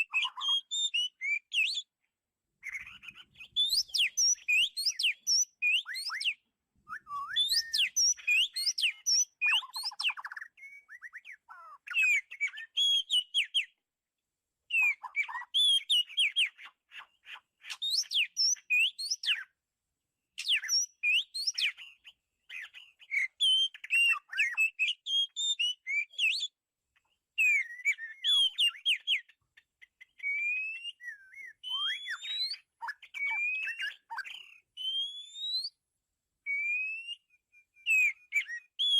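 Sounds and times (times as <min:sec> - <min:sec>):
bird singing whistles: 0:00.0 - 0:01.9, 0:02.6 - 0:13.8, 0:14.7 - 0:19.6, 0:20.4 - 0:26.6, 0:27.4 - 0:35.8, 0:36.4 - 0:38.9.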